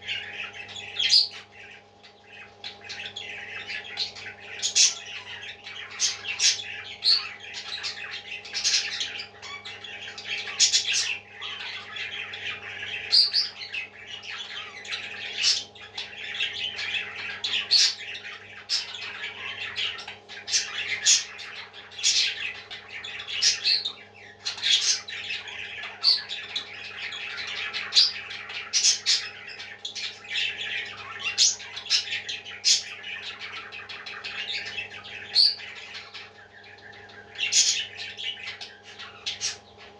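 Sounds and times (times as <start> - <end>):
constant low hum: 0.0 - 39.9
parrots chirping and squawking: 0.0 - 39.9.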